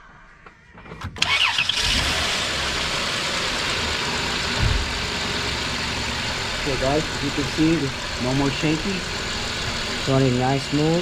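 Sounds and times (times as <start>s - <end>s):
car engine starting and idling: 0.9s - 11.0s.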